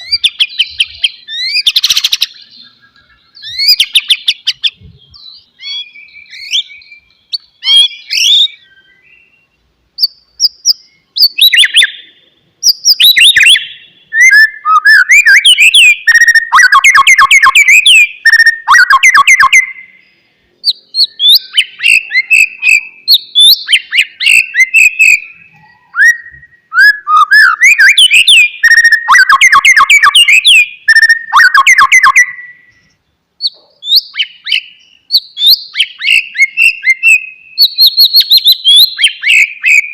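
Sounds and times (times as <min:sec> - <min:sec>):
bird singing fluting whistles: 0:00.0 - 0:20.0, 0:20.6 - 0:39.9.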